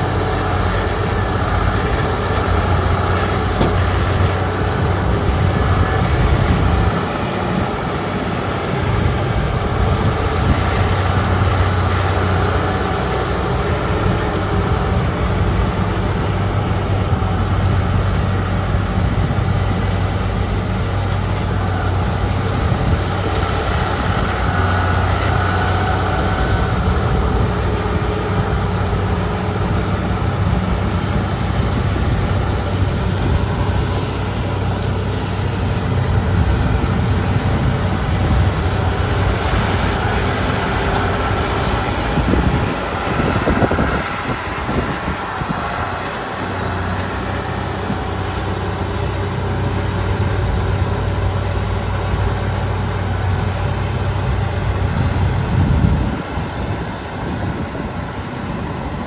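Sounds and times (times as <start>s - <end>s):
diesel machines engine drone: 0.0s - 59.0s.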